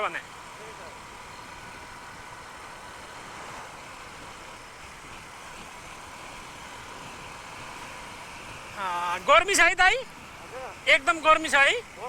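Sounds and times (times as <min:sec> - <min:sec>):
motorcycle engine and road noise: 0:00.0 - 0:12.0
wind rush on microphone: 0:00.4 - 0:12.0.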